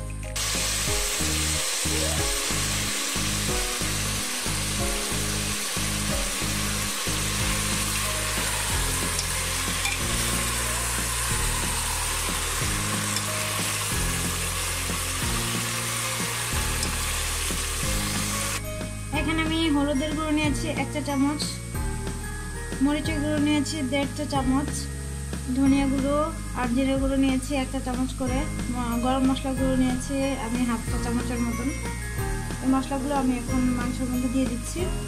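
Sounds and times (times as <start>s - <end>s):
meat sizzling in a pot: 0.3s - 35.0s.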